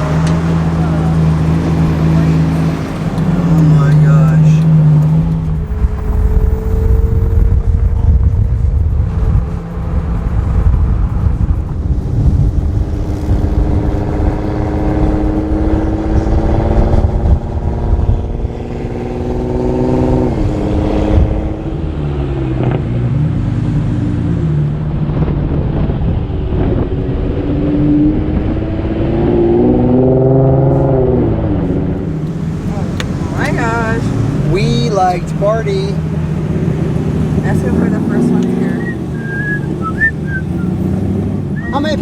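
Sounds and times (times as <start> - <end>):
car engine pulling under load: 0.0 - 42.0
heavy low rumble: 0.0 - 42.0.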